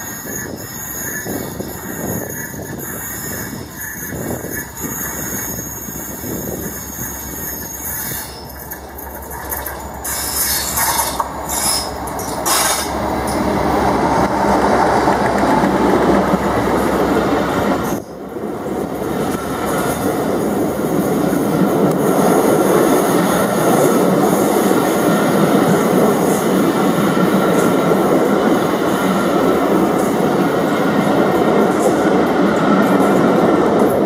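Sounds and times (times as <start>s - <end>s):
coaches on rails: 0.0s - 34.0s
diesel locomotive passing: 0.0s - 34.0s.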